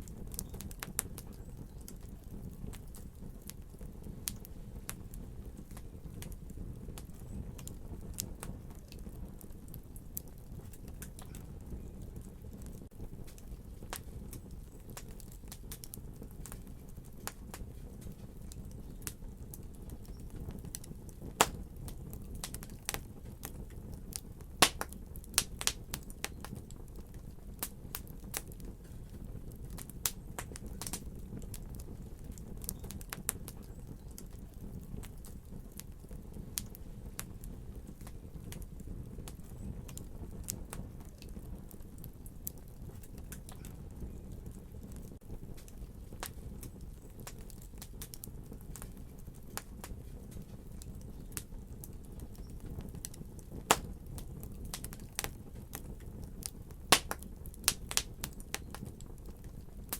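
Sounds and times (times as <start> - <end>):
low steady fire rumble: 0.0 - 59.9
wood fire crackling and popping: 0.0 - 59.9.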